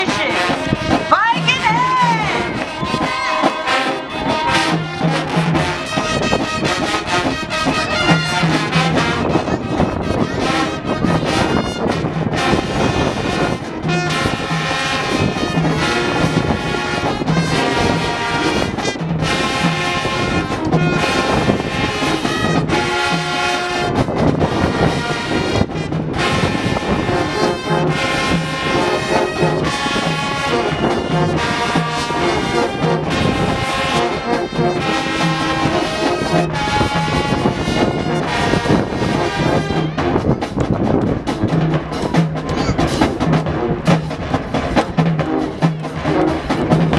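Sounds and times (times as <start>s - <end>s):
marching band playing: 0.0s - 46.9s.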